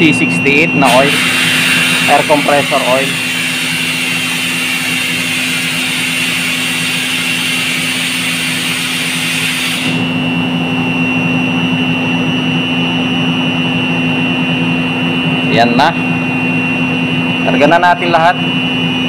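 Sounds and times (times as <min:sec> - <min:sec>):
machinery hum with high whine: 0:00.0 - 0:19.0.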